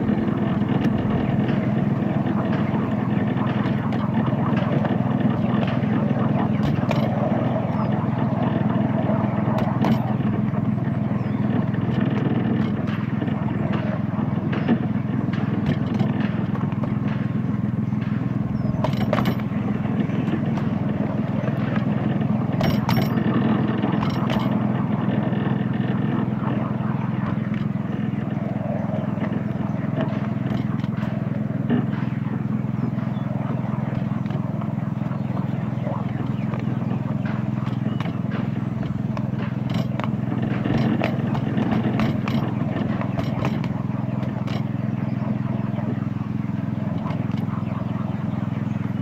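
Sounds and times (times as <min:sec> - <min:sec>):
petrol engine running: 0:00.0 - 0:49.0.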